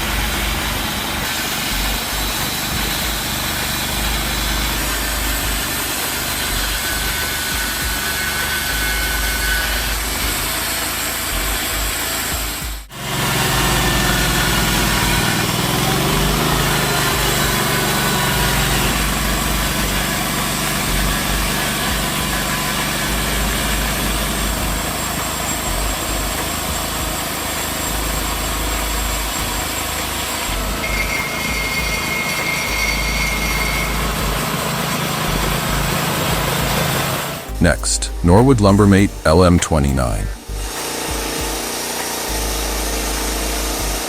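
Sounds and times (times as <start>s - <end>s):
sawmill engine running: 0.0s - 39.8s.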